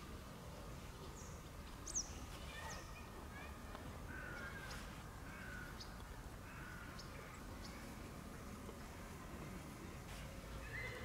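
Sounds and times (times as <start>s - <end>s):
small birds chirping: 0.6s - 11.0s.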